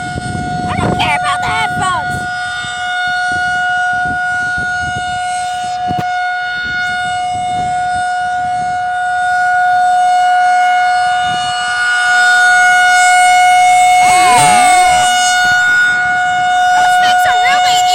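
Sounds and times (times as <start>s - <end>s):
warning siren steady tone: 0.0s - 17.9s.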